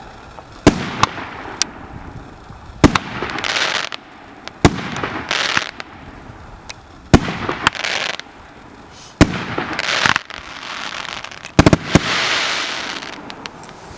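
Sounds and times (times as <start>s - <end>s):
firework bangs and crackling: 0.0s - 13.9s.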